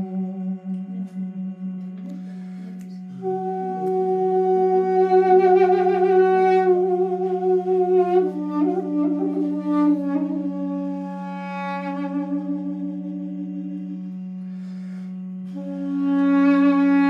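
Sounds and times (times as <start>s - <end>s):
duduk melody: 0.0s - 17.0s
low drone: 0.0s - 17.0s.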